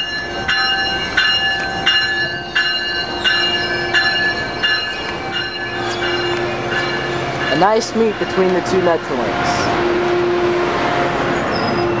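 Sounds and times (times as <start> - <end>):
train bell ringing: 0.0 - 10.6, 11.3 - 12.0
train moving: 0.0 - 12.0.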